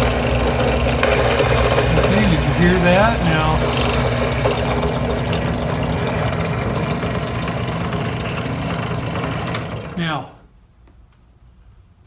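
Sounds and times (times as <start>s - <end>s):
drill press motor hum: 0.0s - 10.4s.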